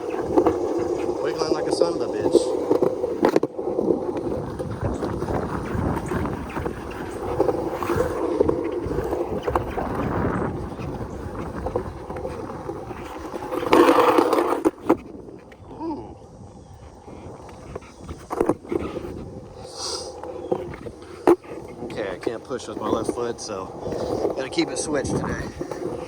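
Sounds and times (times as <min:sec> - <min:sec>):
skateboard rolling on concrete: 0:00.0 - 0:26.0.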